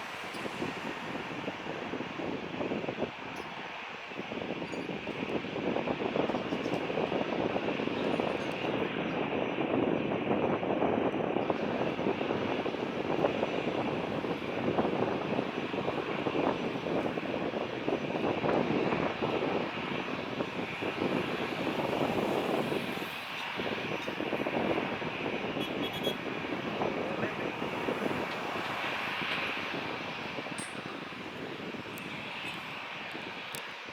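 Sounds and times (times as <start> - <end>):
jet engines at takeoff: 0.0 - 33.9.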